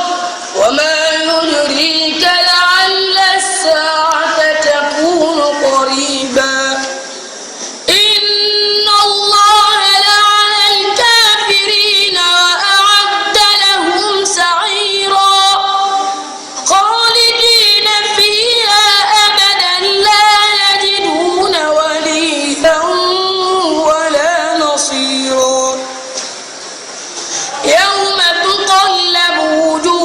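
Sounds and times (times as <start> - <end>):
child reciting melodically: 0.0 - 7.0, 7.9 - 25.9, 27.5 - 30.0.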